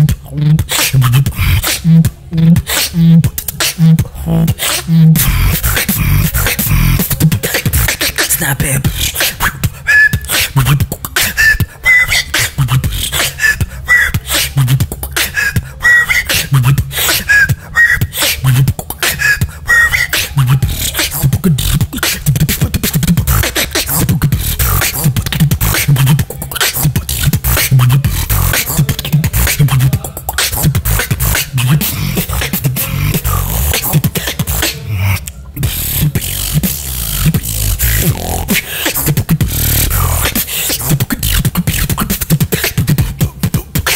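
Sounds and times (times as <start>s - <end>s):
human beatboxing: 0.0s - 43.9s.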